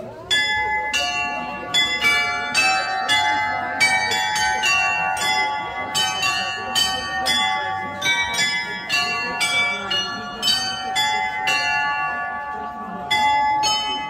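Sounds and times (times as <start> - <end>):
glockenspiel bells playing tune: 0.0 - 14.0.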